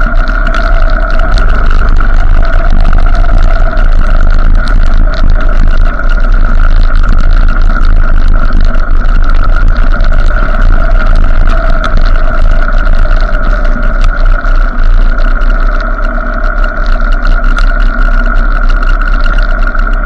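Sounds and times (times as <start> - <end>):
motorcycle engine: 0.0 - 20.0
wind rumble on microphone: 0.0 - 20.0.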